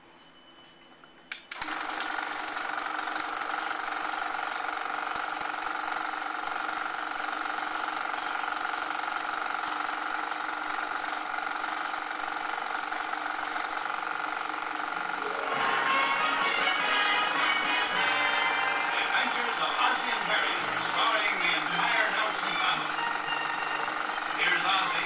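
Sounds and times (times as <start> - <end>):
film projector chattering: 1.6 - 25.0.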